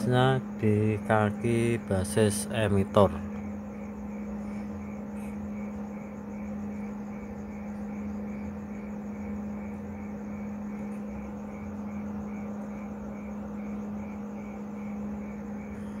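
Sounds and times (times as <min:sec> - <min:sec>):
amplifier electrical hum: 0:00.0 - 0:16.0.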